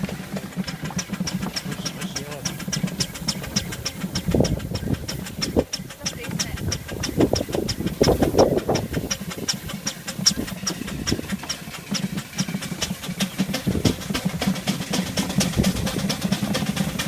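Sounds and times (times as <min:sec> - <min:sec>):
steam traction engine chuffing: 0:00.0 - 0:17.0.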